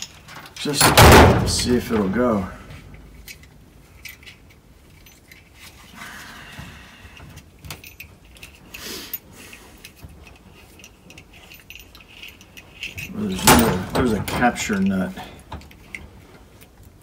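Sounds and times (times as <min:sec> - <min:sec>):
metallic clicks and rattles: 0:00.0 - 0:05.9, 0:07.1 - 0:17.0.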